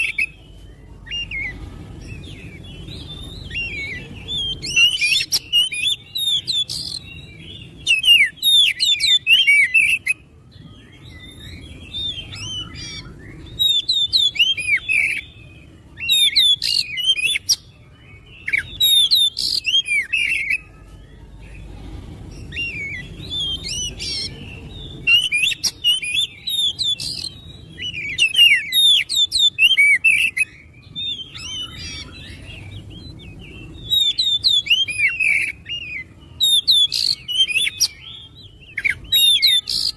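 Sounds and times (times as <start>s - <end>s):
songbird whistling: 0.0s - 21.7s, 22.3s - 39.9s.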